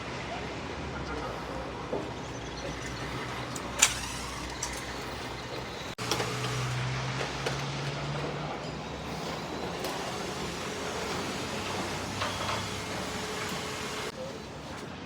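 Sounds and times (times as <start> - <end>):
construction site noise: 0.0 - 15.0.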